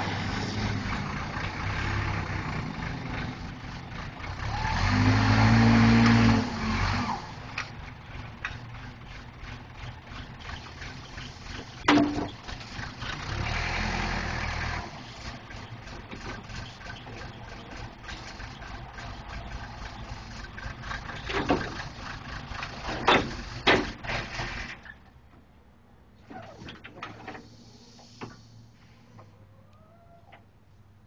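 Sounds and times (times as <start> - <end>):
backhoe loader engine running: 0.0 - 25.4.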